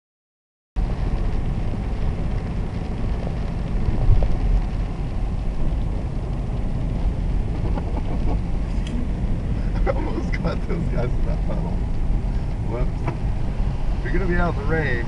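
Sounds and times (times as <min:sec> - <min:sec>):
car driving on wet road: 0:00.8 - 0:15.0.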